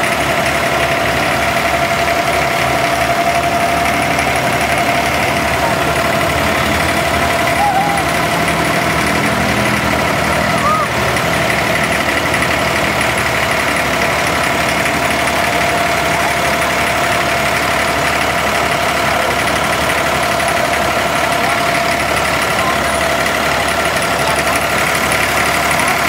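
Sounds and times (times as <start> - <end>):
boat diesel engine running: 0.0 - 26.0.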